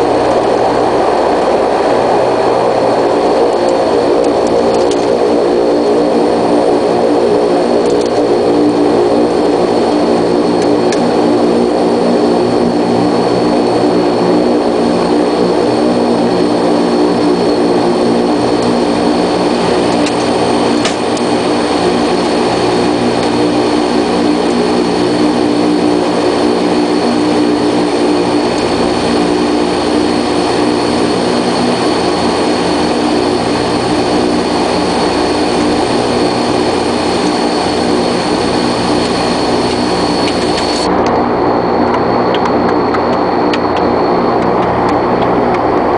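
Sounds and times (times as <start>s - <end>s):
high turbine whine: 0.0s - 45.9s
turboprop engines droning: 0.0s - 45.9s.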